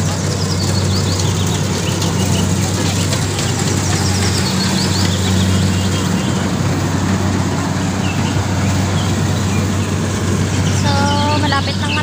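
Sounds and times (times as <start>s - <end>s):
combine harvester engine humming: 0.0s - 12.0s.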